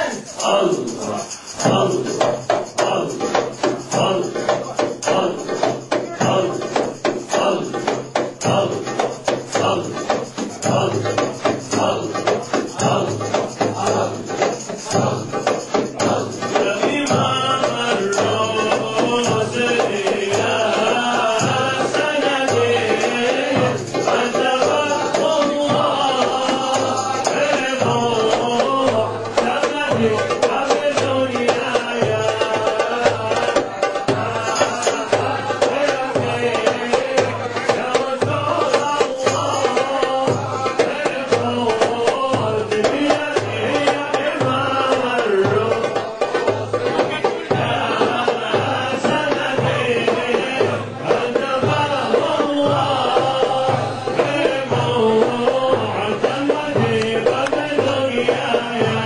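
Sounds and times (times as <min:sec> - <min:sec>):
frame drums beating: 0:00.0 - 0:59.0
men chanting: 0:00.0 - 0:59.0.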